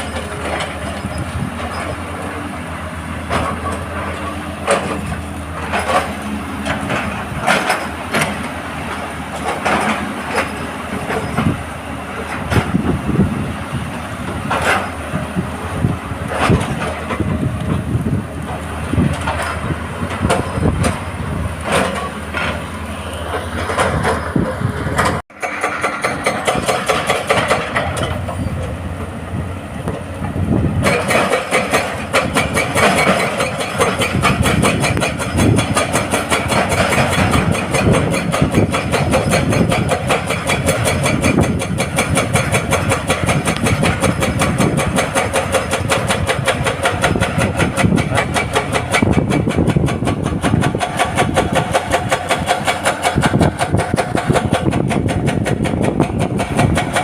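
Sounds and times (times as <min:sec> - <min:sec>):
hydraulic breaker hammering rock: 0:00.0 - 0:13.5, 0:14.2 - 0:28.8, 0:29.8 - 0:57.0
diesel engine running: 0:00.0 - 0:57.0.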